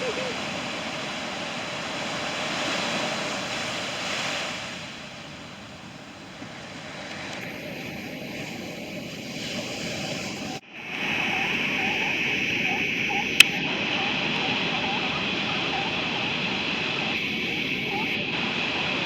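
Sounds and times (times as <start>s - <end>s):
ocean surf: 0.0s - 19.0s
wind on the microphone: 0.0s - 19.0s.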